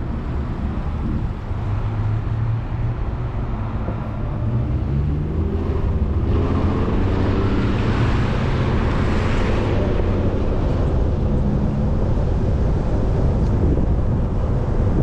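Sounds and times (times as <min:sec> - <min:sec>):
tyre and road noise: 0:00.0 - 0:15.0
vehicle engine hum: 0:00.0 - 0:15.0.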